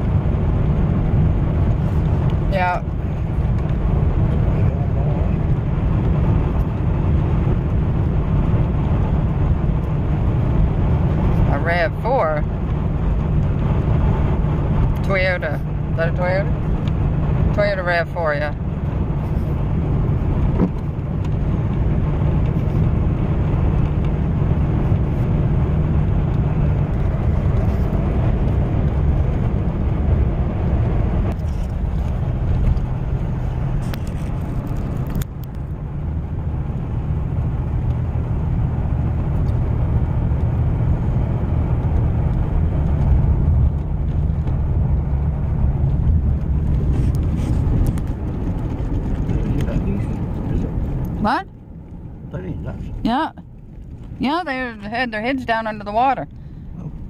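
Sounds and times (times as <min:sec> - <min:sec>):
truck engine and tyre noise: 0:00.0 - 0:57.0.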